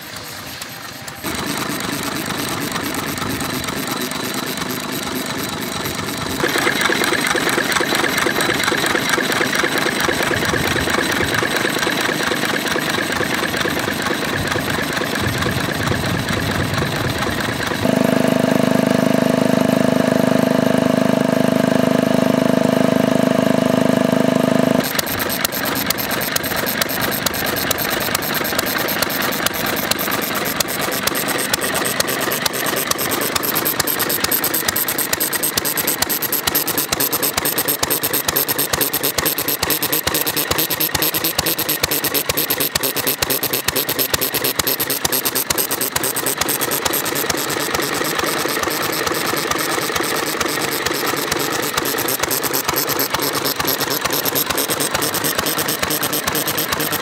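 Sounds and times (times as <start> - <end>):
engine driving water pump hum: 0.0 - 57.0
stationary engine fast even beat: 0.0 - 57.0.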